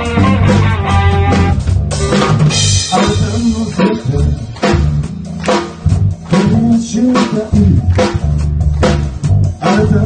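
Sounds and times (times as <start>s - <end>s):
drum kit beat: 0.0s - 10.0s
electric guitars: 0.0s - 10.0s.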